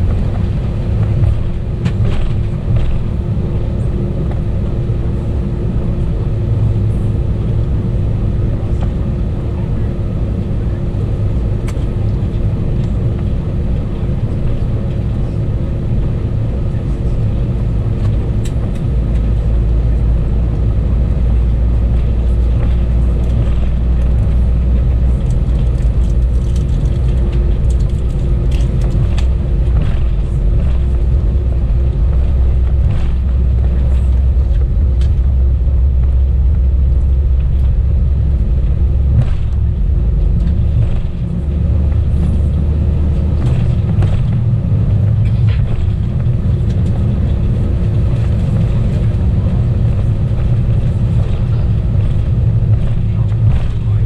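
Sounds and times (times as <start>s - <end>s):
airplane cabin engine drone: 0.0s - 54.0s
constant hum tones: 0.0s - 54.0s
low rumble: 0.0s - 54.0s.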